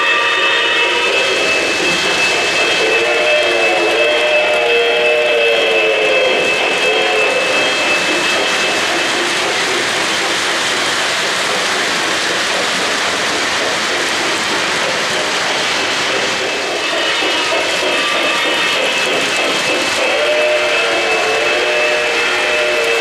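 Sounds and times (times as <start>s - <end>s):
model trains rumbling on track: 0.0s - 23.0s
wheels rattling along rails: 0.0s - 23.0s.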